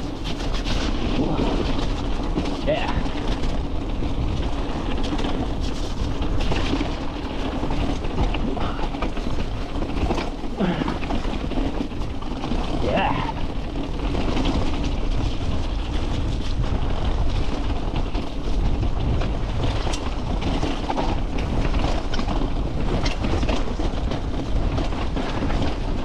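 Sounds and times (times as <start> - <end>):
bike clattering and rattling: 0.0 - 26.0
tyres rumbling over stones: 0.0 - 26.0.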